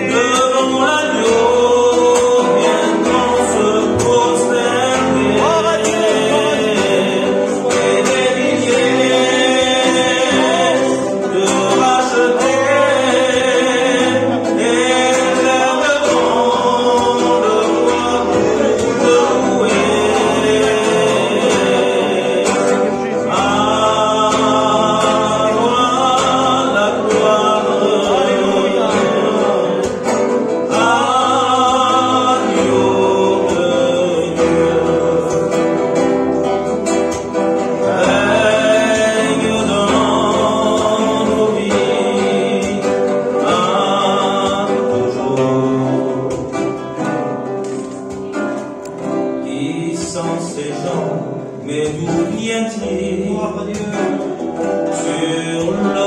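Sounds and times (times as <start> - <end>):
man singing a hymn: 0.0 - 47.5, 48.9 - 56.0
strummed acoustic guitar: 0.0 - 56.0.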